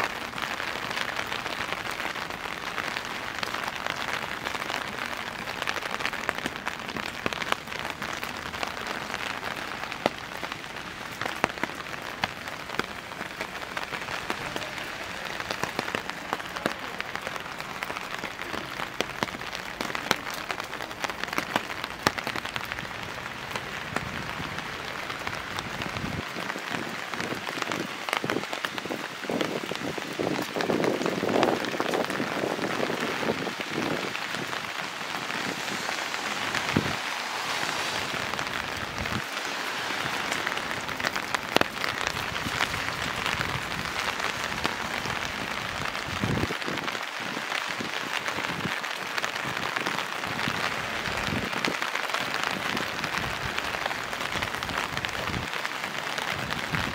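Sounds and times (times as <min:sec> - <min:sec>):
rain falling: 0:00.0 - 0:56.9
sharp raindrop impacts: 0:00.0 - 0:56.9.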